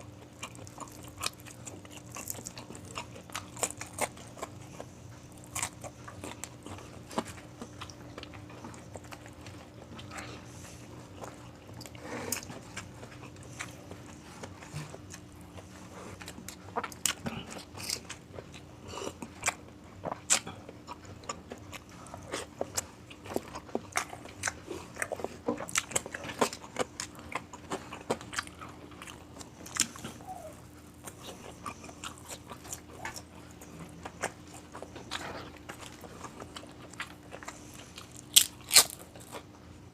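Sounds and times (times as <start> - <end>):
crunchy chewing of fried food: 0.0 - 39.9.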